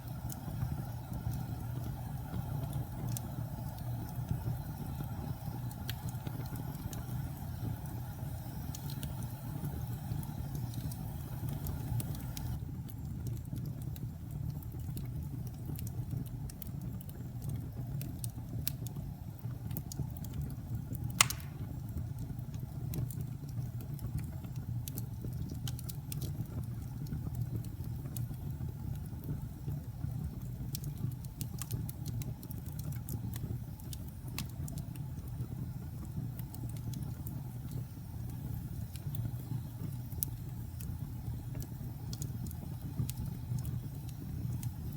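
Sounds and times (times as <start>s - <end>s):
fire crackles and pops: 0.0s - 44.9s
fire rumbling: 0.0s - 44.9s.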